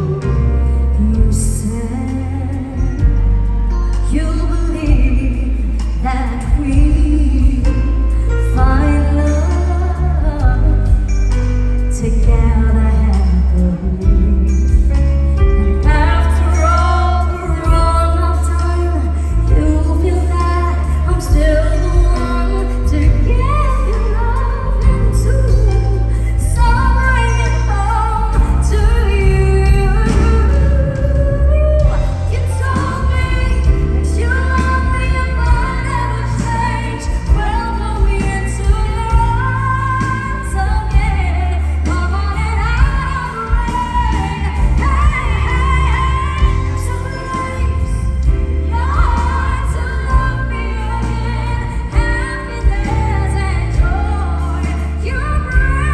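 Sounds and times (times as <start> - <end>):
band playing: 0.0 - 55.9
women singing pop songs: 0.0 - 55.9.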